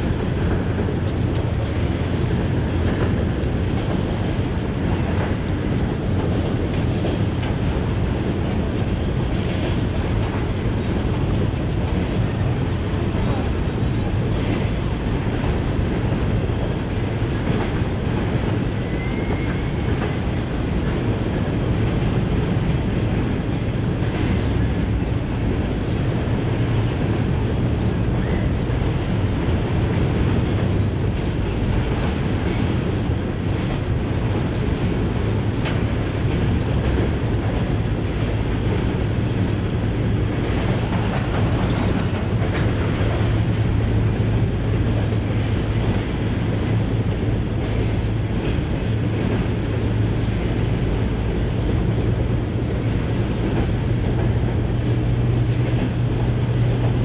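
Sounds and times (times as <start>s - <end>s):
train rumbling across bridge: 0.0s - 57.0s.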